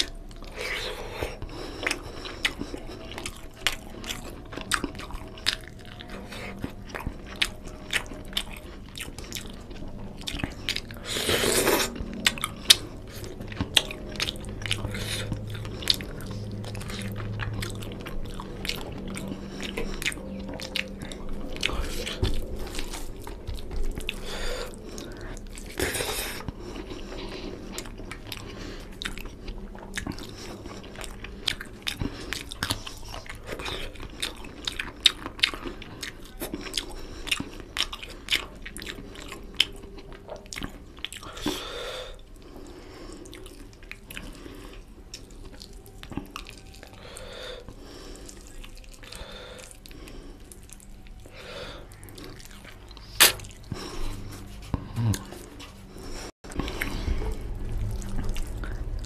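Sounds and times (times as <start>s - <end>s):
chewing with wet clicks: 0.0s - 59.0s.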